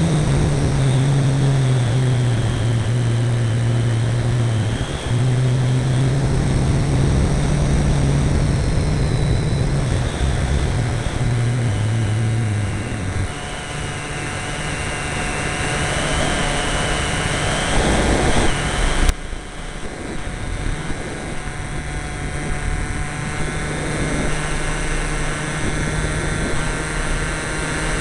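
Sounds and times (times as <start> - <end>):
model airplane engine: 0.0 - 28.0
rushing wind: 0.0 - 28.0.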